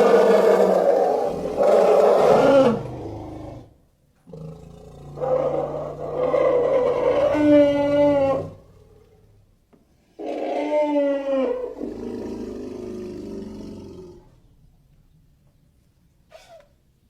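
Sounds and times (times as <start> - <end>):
lion roaring: 0.0 - 9.5, 10.2 - 14.5.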